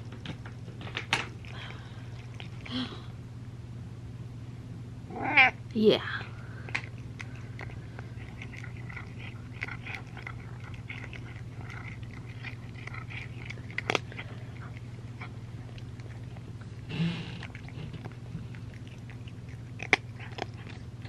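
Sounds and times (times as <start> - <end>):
cat chewing and crunching: 0.0 - 3.1, 6.3 - 21.0
steady low hum: 0.0 - 21.0.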